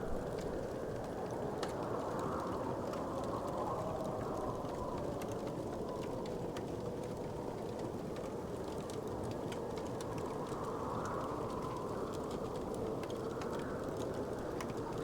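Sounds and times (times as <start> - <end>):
low rushing of flames: 0.0 - 15.0
wood fire crackling and popping: 0.2 - 15.0.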